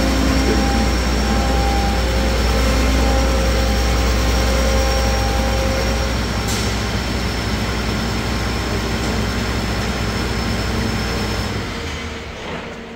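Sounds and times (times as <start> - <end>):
high whine: 0.0 - 11.6
diesel engine idling: 0.0 - 12.4.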